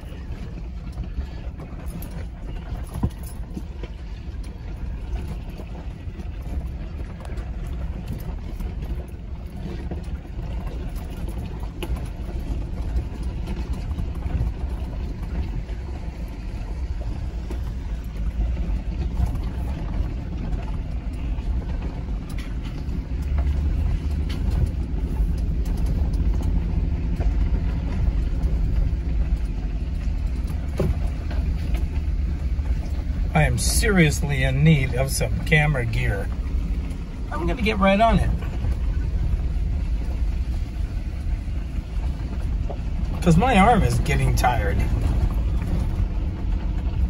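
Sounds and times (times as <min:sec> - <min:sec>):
engine and tyres rumbling on gravel: 0:00.0 - 0:47.0.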